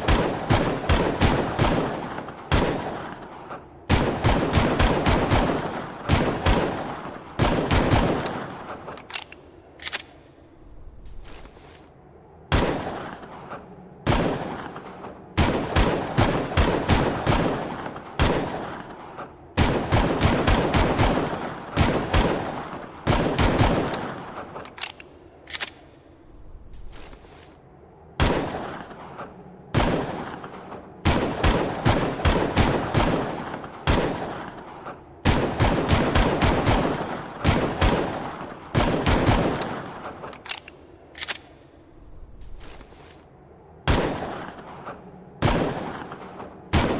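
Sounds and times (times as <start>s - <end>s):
pistol gunshots with echo: 0.0s - 10.2s, 12.4s - 25.9s, 28.1s - 42.6s, 43.8s - 46.9s.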